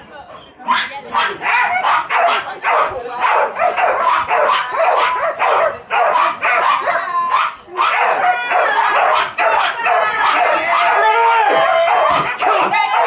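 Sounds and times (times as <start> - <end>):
dogs barking rapidly: 0.6 - 13.0.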